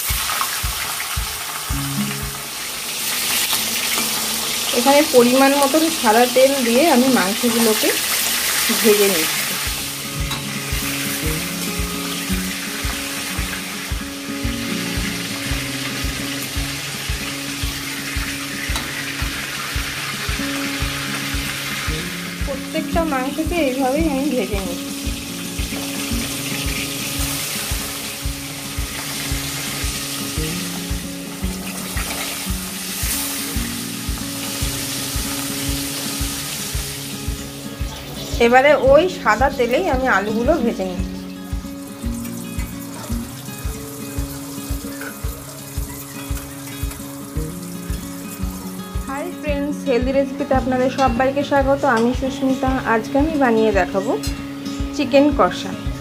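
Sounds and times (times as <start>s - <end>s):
background music with beat: 0.0s - 4.7s, 9.4s - 56.0s
chicken sizzling in oil: 0.0s - 56.0s.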